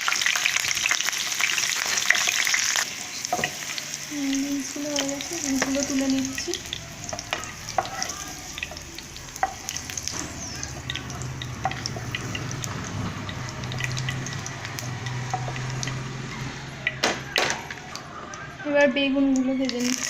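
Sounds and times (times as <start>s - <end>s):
vegetables sizzling in oil: 0.0s - 18.1s, 19.3s - 20.0s.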